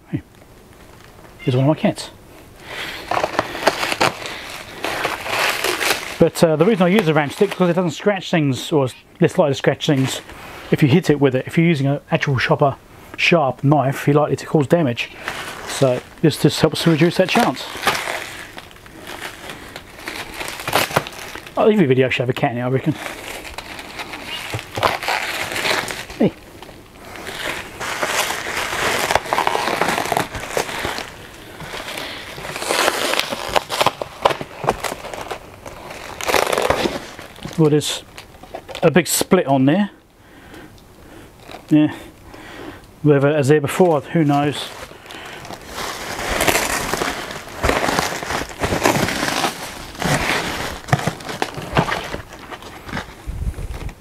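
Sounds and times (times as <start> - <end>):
bubble wrap crinkling and crackling: 0.4 - 11.3, 12.1 - 39.9, 40.8 - 42.3, 43.4 - 54.0.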